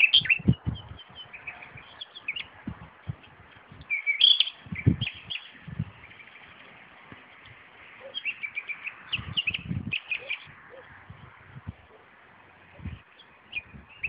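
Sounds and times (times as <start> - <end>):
nightingale singing: 0.0 - 6.7, 7.9 - 11.0, 11.9 - 14.0.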